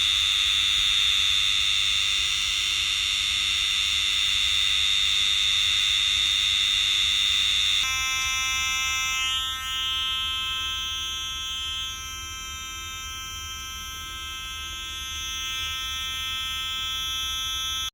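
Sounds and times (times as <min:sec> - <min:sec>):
buzzy electronic oscillator tone: 0:00.0 - 0:17.9.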